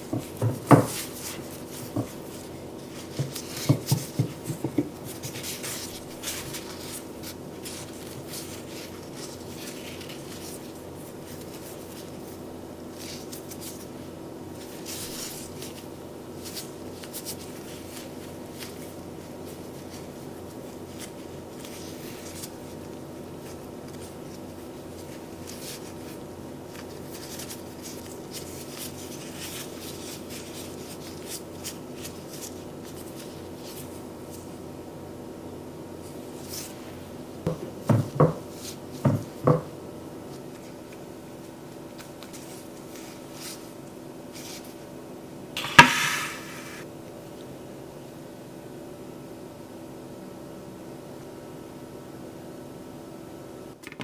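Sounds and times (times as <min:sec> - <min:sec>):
electrical hum: 0:00.0 - 0:53.8.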